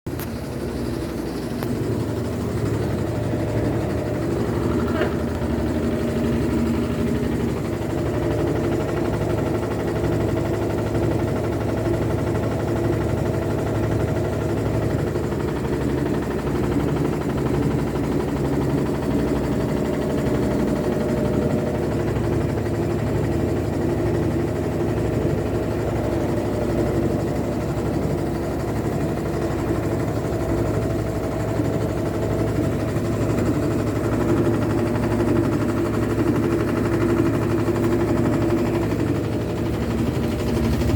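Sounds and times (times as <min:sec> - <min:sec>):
washing machine hum: 0:00.1 - 0:40.9.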